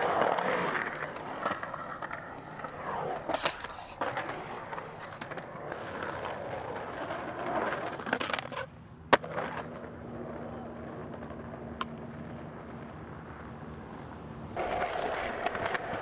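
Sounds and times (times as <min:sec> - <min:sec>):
skateboard clacks: 0:00.0 - 0:16.0
skateboard wheels rolling on concrete: 0:00.0 - 0:16.0.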